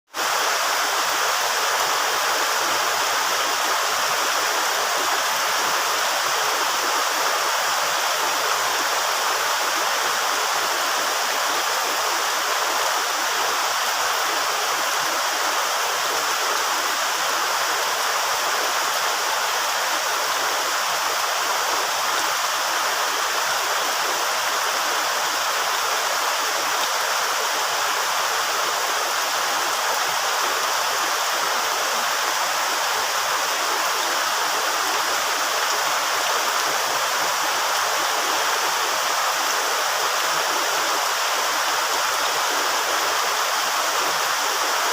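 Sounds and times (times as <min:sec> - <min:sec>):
steady rain falling: 0:00.1 - 0:44.9.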